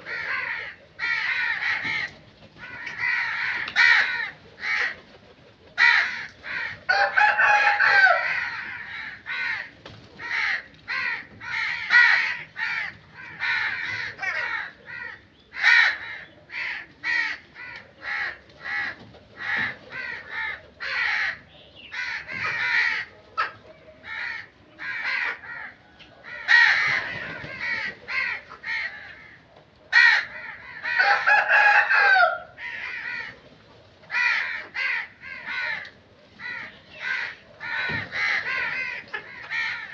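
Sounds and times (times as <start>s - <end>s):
crows cawing: 0.0s - 5.2s, 5.8s - 33.4s, 34.0s - 39.9s.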